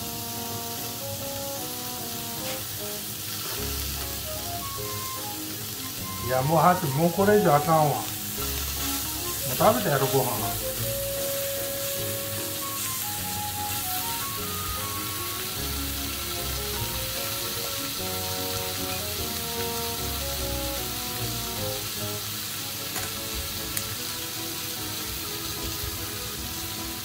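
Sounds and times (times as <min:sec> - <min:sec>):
light background music: 0:00.0 - 0:27.0
meat sizzling on a grill plate: 0:00.0 - 0:27.0.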